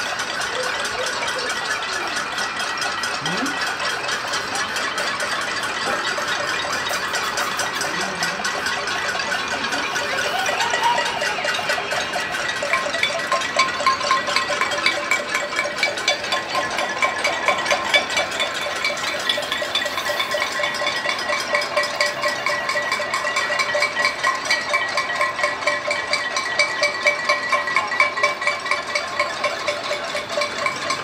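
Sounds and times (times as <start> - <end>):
metallic clanging of pots and pans: 0.0 - 31.0.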